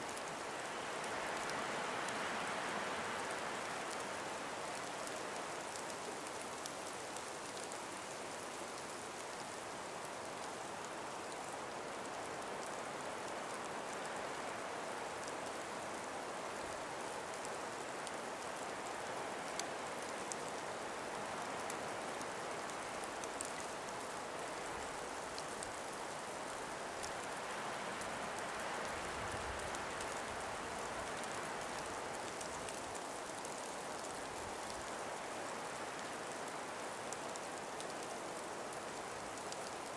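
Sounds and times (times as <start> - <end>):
breeze hissing through trees: 0.0 - 39.9.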